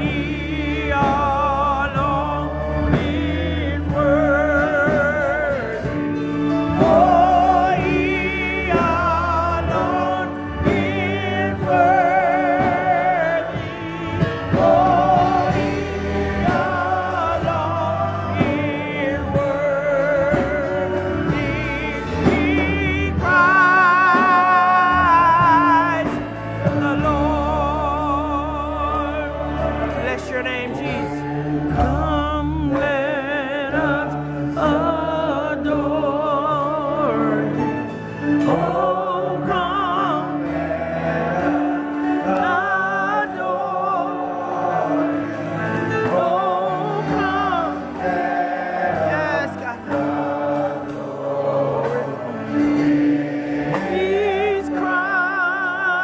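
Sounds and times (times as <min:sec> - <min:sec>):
choir and congregation singing: 0:00.0 - 0:56.0
held low accompaniment notes: 0:00.0 - 0:56.0
man singing into a microphone: 0:00.0 - 0:56.0.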